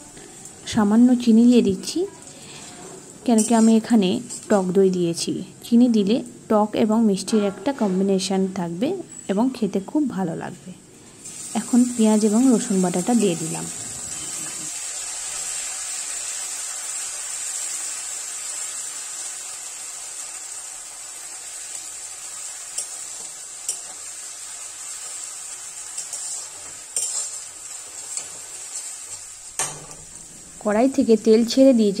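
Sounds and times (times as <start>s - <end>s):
onion sizzling in oil: 0.0s - 7.3s, 8.2s - 32.0s.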